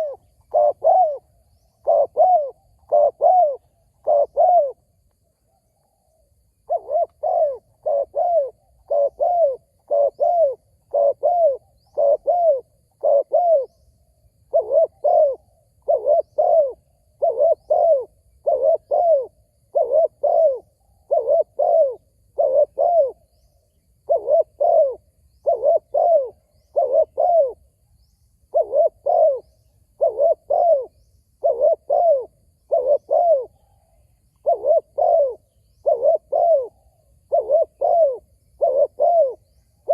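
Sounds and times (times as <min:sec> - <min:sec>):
dove cooing: 0:00.0 - 0:05.0, 0:05.8 - 0:23.4, 0:24.0 - 0:27.8, 0:28.5 - 0:39.9.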